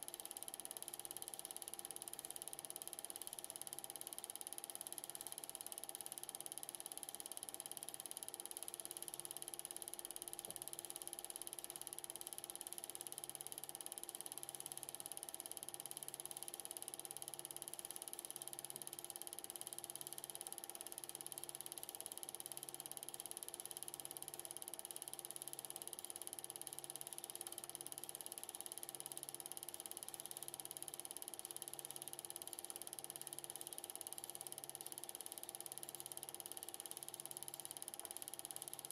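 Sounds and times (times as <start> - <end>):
film projector mechanism running: 0.0 - 38.9.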